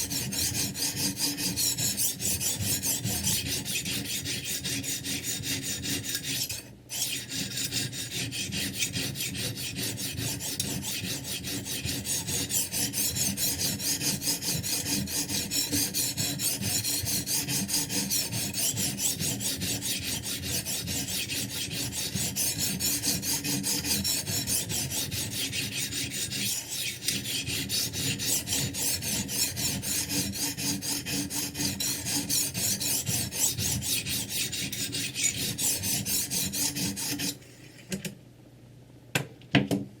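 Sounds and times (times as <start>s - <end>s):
sharpening stone scraping knife: 0.0s - 37.4s.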